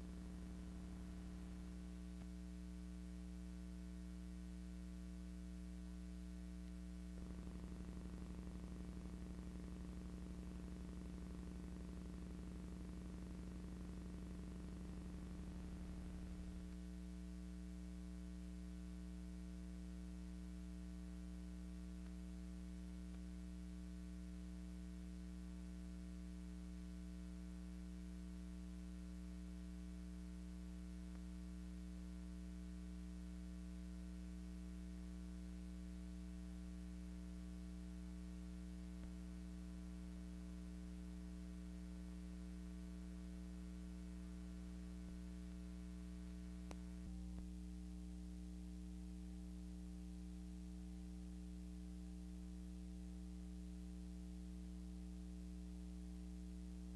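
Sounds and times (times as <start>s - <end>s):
electrical mains hum: 0.0s - 56.9s.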